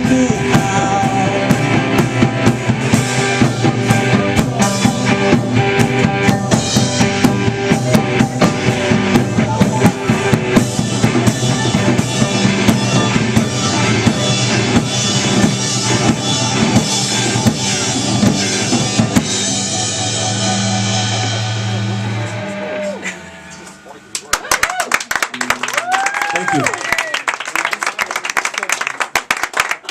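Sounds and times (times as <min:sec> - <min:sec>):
drum kit: 0:00.0 - 0:24.3
rock band playing: 0:00.0 - 0:24.5.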